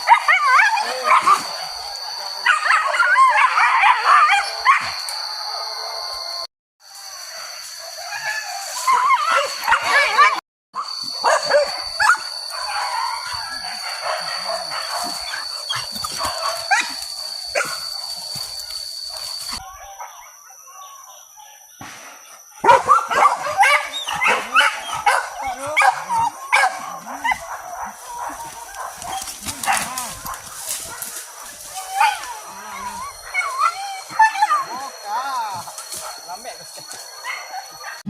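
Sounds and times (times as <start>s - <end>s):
dogs yelping and barking: 0.0s - 21.6s, 22.2s - 38.0s
steady high-pitched whine: 0.0s - 38.0s.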